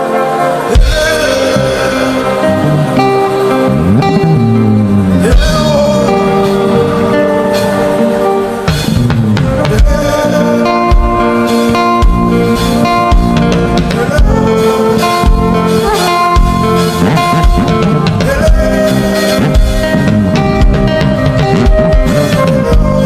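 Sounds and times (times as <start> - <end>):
instrumental worship band music: 0.0 - 23.0.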